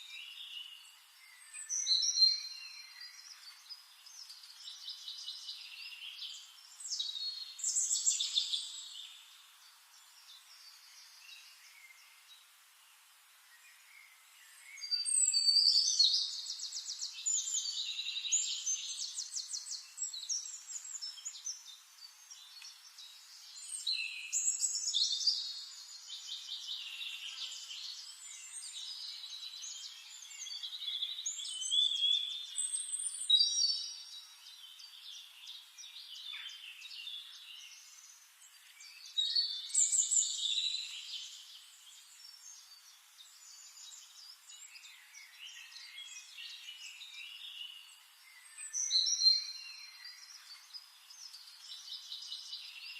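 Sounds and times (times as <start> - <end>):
songbird trilling and chirping: 0.0 - 12.3, 13.6 - 52.9.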